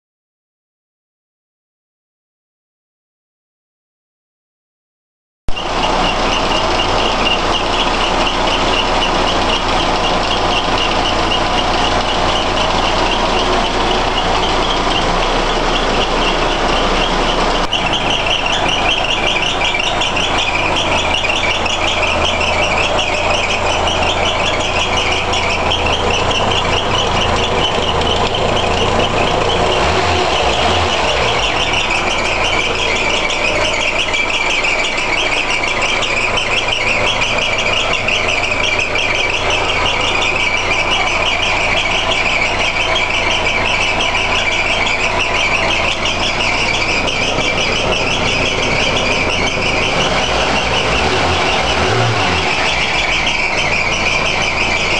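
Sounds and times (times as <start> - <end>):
car engine idling: 5.5 - 54.9.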